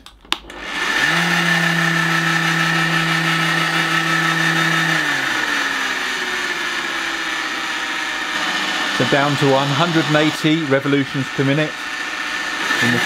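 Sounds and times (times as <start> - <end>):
drill press motor whine: 0.5 - 13.0.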